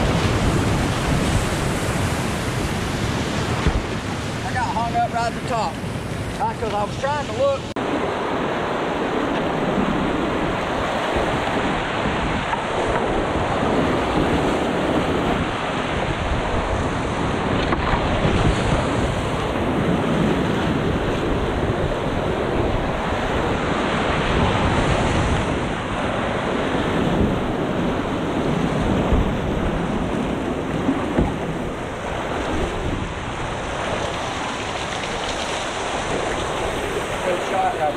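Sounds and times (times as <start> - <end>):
roar of tumbling water: 0.0 - 37.9.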